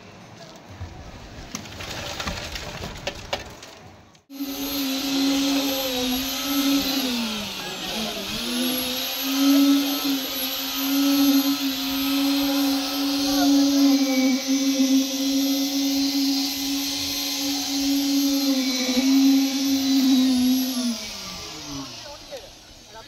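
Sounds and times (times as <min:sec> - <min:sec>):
concrete vibrator high whine: 0:04.3 - 0:23.0.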